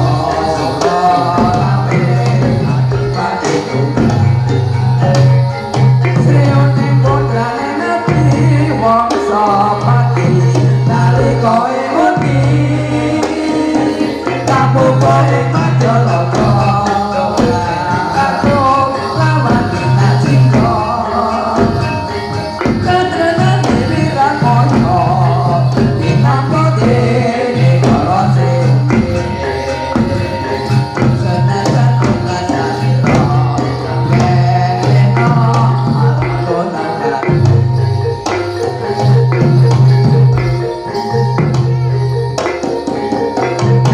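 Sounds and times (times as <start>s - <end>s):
drums beating a steady rhythm: 0.0s - 43.9s
percussion: 0.0s - 43.9s
person singing wavering melody: 0.0s - 43.9s.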